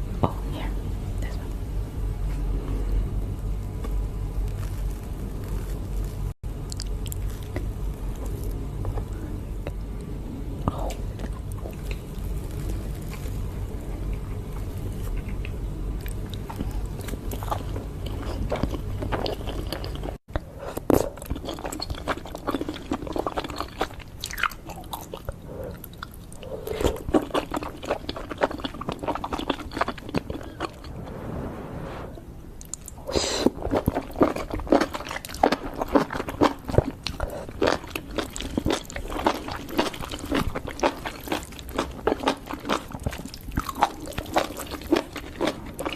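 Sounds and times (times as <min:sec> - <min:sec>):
crunchy chewing and biting: 0:03.8 - 0:08.6, 0:11.2 - 0:30.9, 0:32.6 - 0:45.9.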